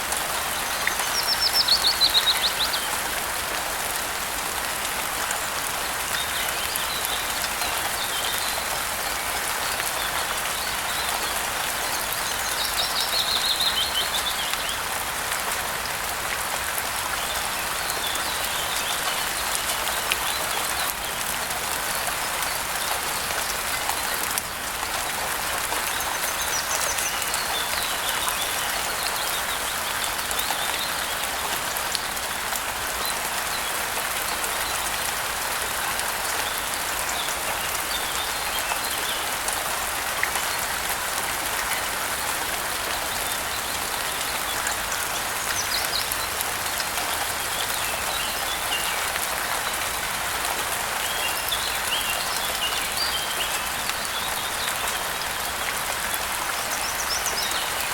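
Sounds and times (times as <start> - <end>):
rain falling on surfaces: 0.0 - 57.9.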